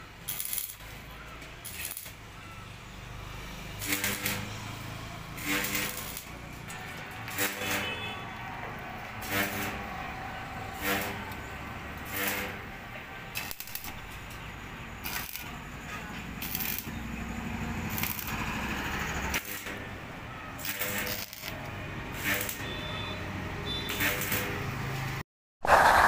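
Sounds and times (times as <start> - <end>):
arc welding crackle and hiss: 0.0 - 2.4, 3.3 - 23.0, 23.7 - 25.1.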